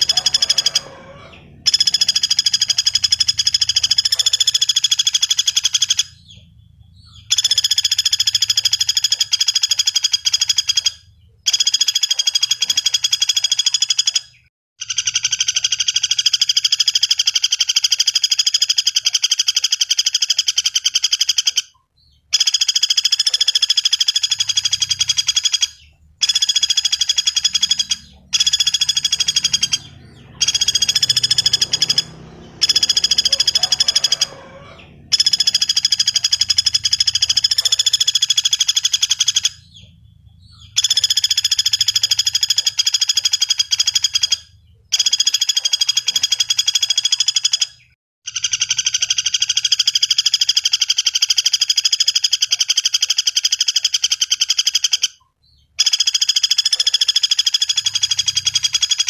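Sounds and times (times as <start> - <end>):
woodpecker rattling trills: 0.0 - 59.0.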